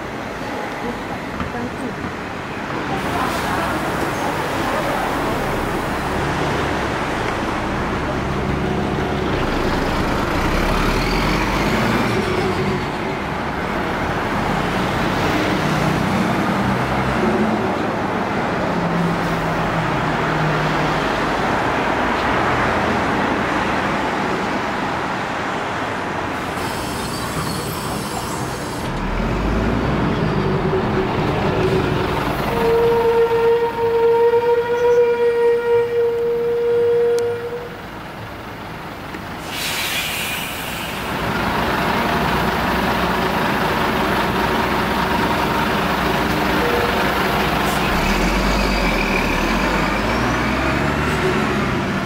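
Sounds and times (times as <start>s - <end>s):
bus engines running: 0.0s - 52.0s
road noise: 0.0s - 52.0s.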